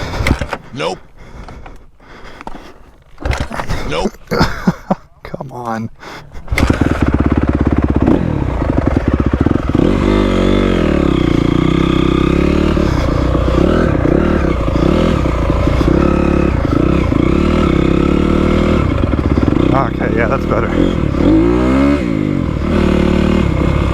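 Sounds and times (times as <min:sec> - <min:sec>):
dirt bike engine idling and revving: 0:00.0 - 0:01.7, 0:06.3 - 0:23.9.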